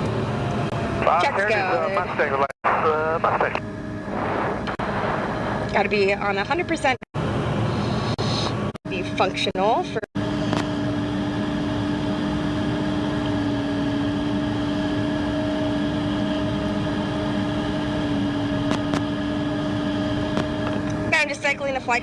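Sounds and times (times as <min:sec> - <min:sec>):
jet engine idling: 0:00.0 - 0:22.0.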